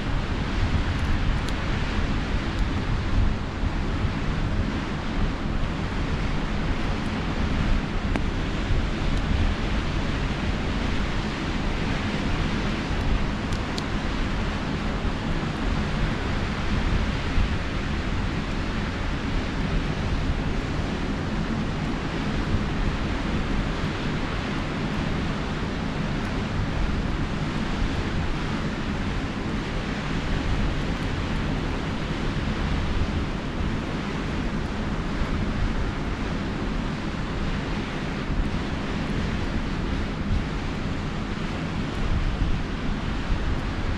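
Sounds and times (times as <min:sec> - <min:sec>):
wind buffeting microphone: 0:00.0 - 0:43.9
campfire crackles: 0:00.1 - 0:43.9.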